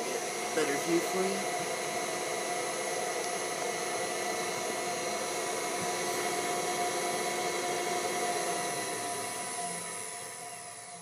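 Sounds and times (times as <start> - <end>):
electric motor whirring and whining: 0.0 - 11.0.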